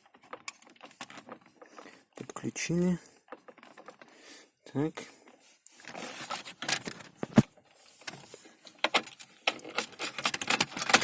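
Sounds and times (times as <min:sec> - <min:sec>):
rustling of wiring and plastic parts: 0:00.0 - 0:11.0.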